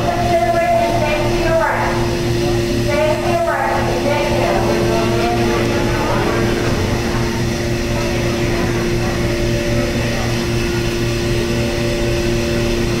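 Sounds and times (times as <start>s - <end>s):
low repeating pulse: 0.0s - 12.8s
mechanical hum of machinery: 0.0s - 13.0s.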